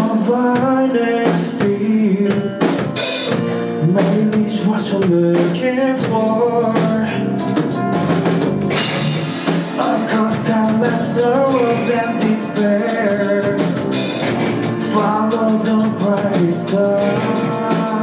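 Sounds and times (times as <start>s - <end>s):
drum kit: 0.0s - 18.0s
live band playing: 0.0s - 18.0s.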